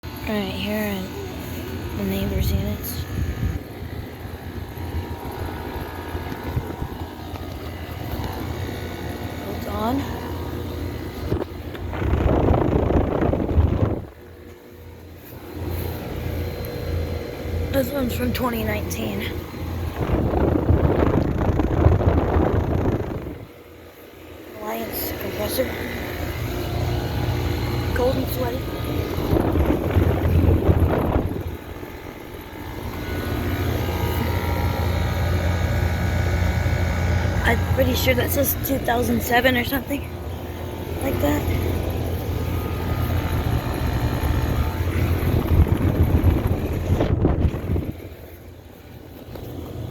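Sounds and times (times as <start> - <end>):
air conditioner units humming: 0.0 - 49.9.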